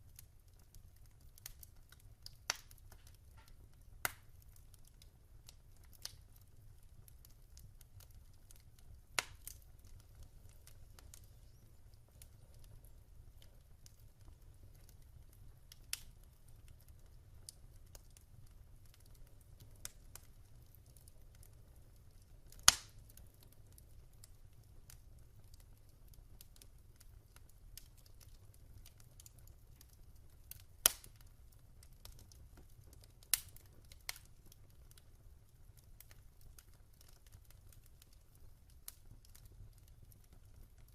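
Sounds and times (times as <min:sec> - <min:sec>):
fire pops and snaps: 0:00.1 - 0:40.9.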